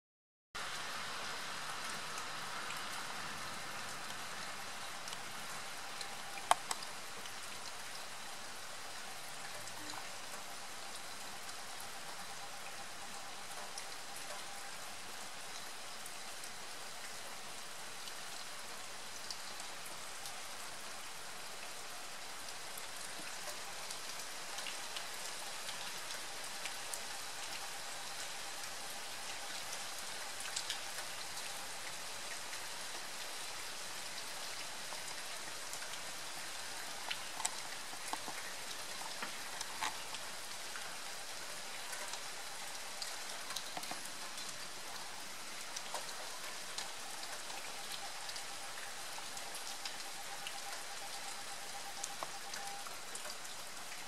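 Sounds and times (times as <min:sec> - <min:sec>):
rain falling on pavement: 0:00.6 - 0:54.0.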